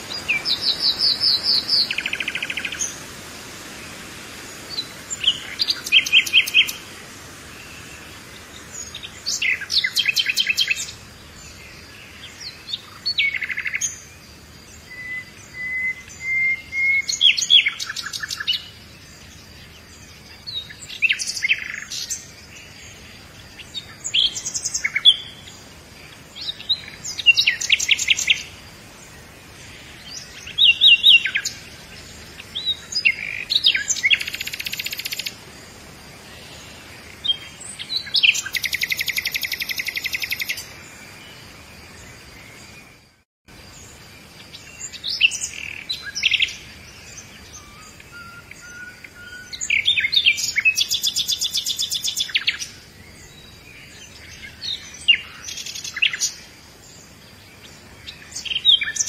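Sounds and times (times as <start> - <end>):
faint steady hiss: 0.0 - 59.0
songbirds singing: 0.0 - 59.0.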